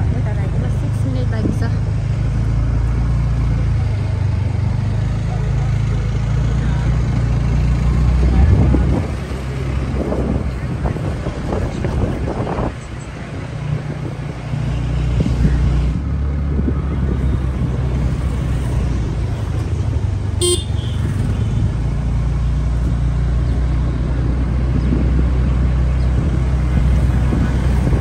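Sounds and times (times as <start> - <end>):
vehicle rumble: 0.0 - 28.0.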